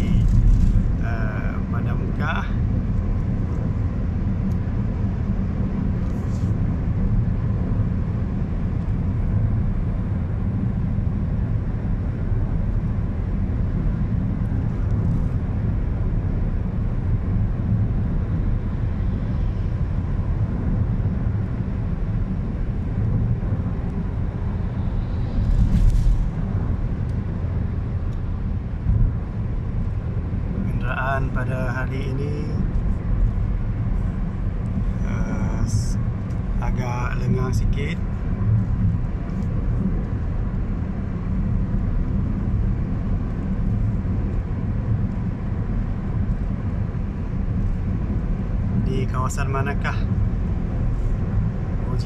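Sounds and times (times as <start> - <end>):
car interior road rumble: 0.0 - 52.0.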